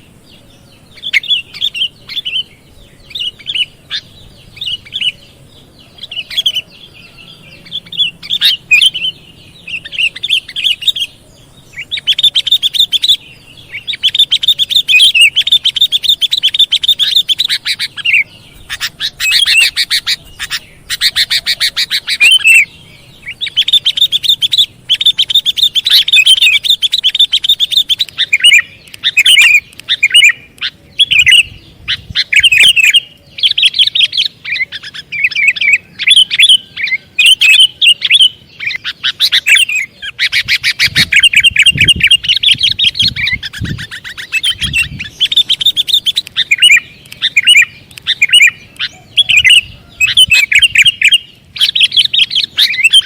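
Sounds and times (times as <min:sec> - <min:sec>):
bird chirping and chattering: 0:00.0 - 0:53.0.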